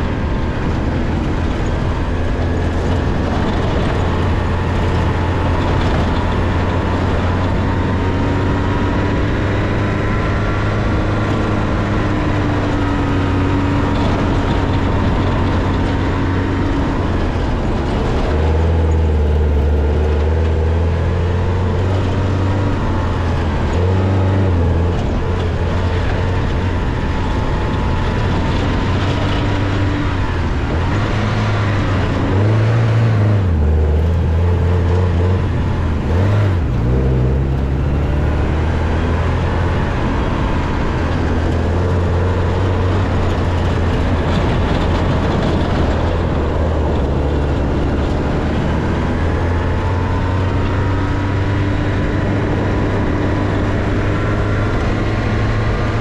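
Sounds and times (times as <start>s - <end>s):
car engine running: 0.0s - 56.0s
tyres on dirt: 0.0s - 56.0s
wind noise: 0.0s - 56.0s.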